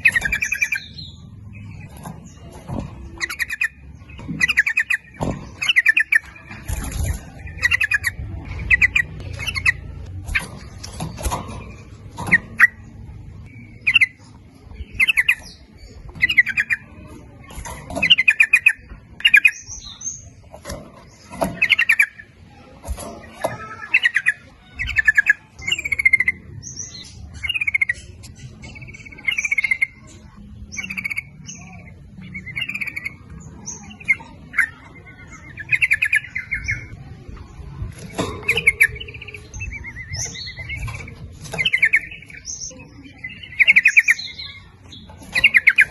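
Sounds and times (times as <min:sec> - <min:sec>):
bird singing bubbly phrases: 0:00.0 - 0:10.7, 0:11.7 - 0:20.4, 0:21.0 - 0:22.7, 0:23.6 - 0:45.9.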